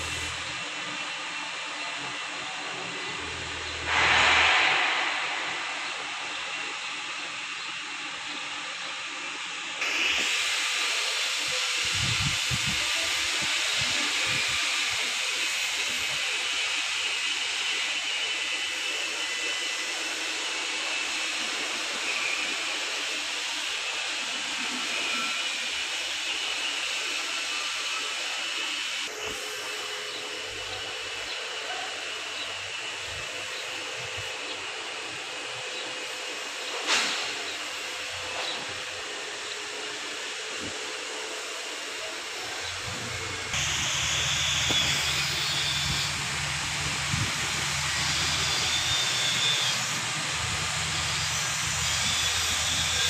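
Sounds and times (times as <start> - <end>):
steady hissing noise: 0.0 - 53.0.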